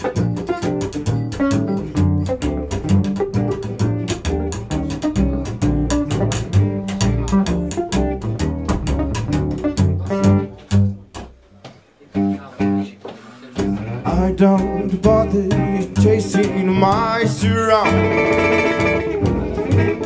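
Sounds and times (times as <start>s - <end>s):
plucked double bass: 0.0s - 11.5s, 12.1s - 12.9s, 13.6s - 20.0s
acoustic guitar: 0.0s - 20.0s.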